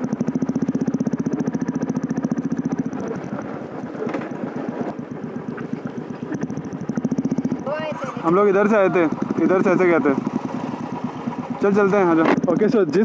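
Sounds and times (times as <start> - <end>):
motorcycle engine exhaust beat: 0.0 - 13.0.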